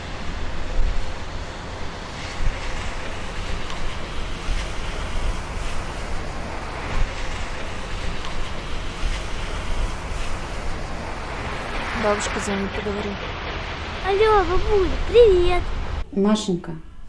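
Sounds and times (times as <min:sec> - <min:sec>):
fluctuating low rumble: 0:00.0 - 0:16.0
steady rushing noise: 0:00.0 - 0:16.1.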